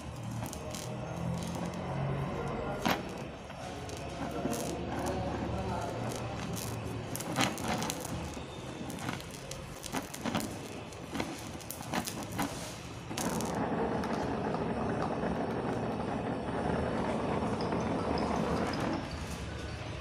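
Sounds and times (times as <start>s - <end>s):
welding torch flame hissing: 0.0s - 17.1s.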